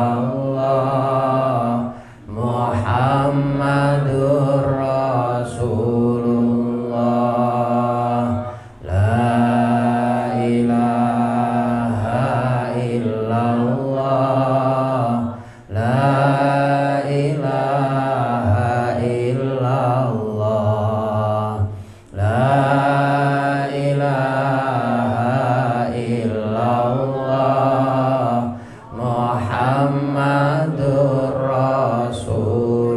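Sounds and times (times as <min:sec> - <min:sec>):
man chanting into a microphone: 0:00.0 - 0:32.9.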